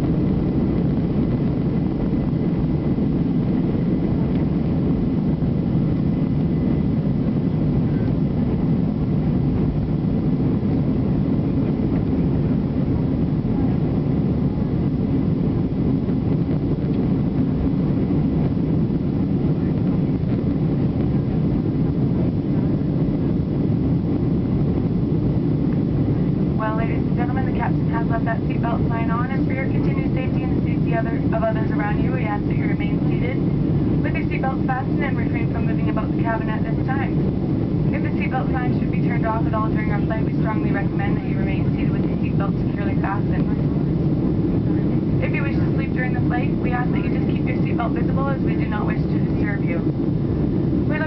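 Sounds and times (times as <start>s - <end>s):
airliner cabin engine rumble: 0.0s - 51.0s
faint steady whine: 0.0s - 51.0s.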